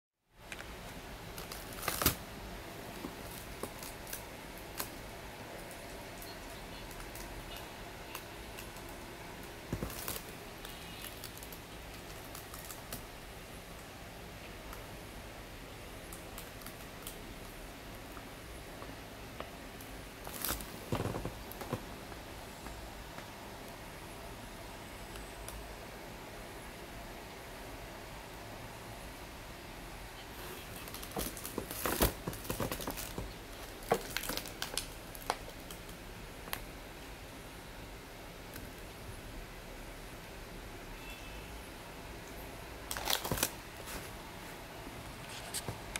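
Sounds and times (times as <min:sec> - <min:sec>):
room hiss: 0:00.3 - 0:45.9.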